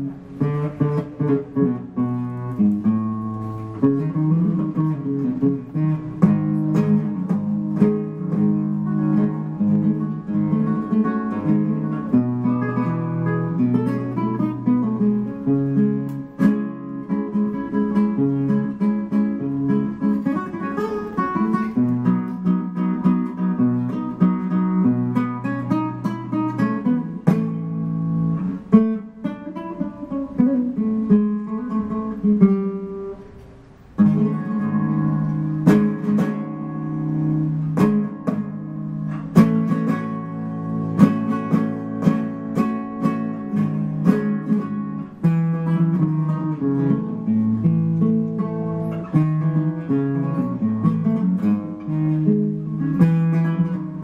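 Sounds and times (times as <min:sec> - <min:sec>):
solo flamenco guitar: 0:00.0 - 0:54.0.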